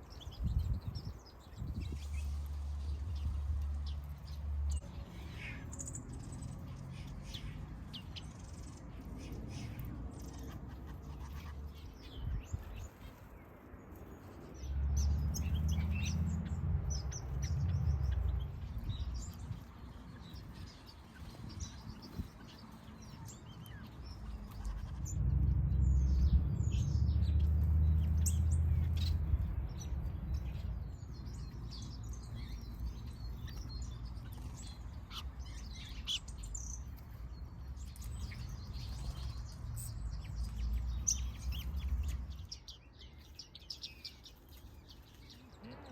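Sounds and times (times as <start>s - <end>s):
small birds chirping and twittering: 0.0s - 45.9s.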